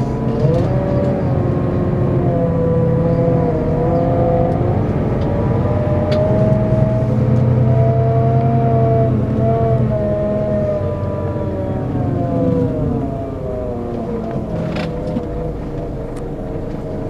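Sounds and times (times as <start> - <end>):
coach diesel engine running: 0.0 - 17.0
engine whine: 0.0 - 17.0.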